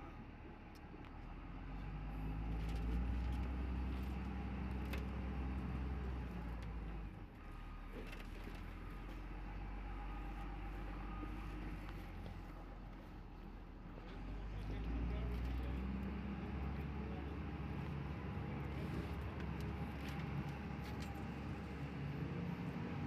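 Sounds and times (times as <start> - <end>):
truck engine droning: 0.0 - 23.0.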